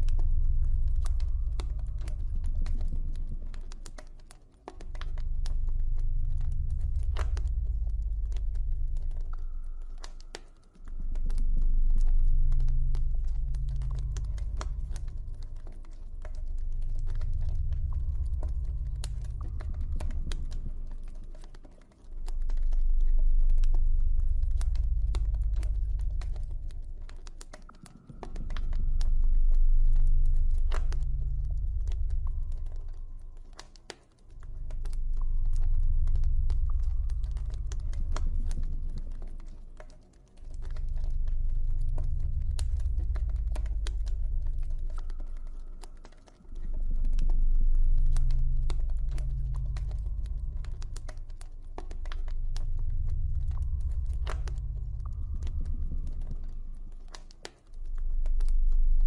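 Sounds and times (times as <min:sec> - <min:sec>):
deep low drone: 0:00.0 - 0:59.0
campfire crackling and popping: 0:00.4 - 0:59.0.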